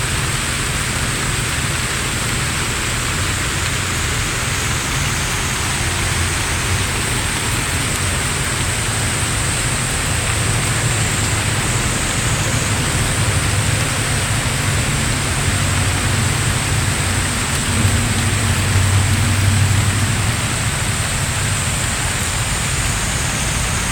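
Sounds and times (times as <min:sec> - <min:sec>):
torrential rain hiss: 0:00.0 - 0:23.9.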